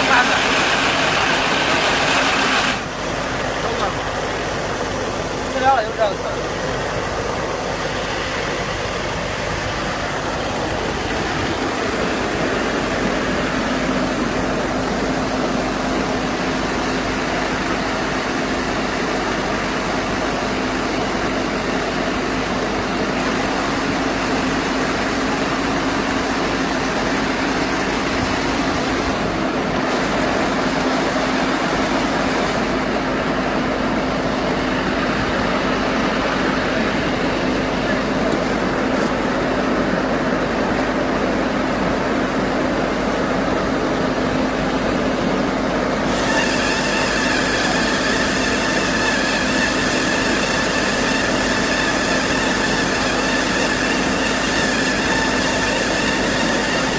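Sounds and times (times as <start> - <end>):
baler-wrapper machine running: 0.0 - 56.9.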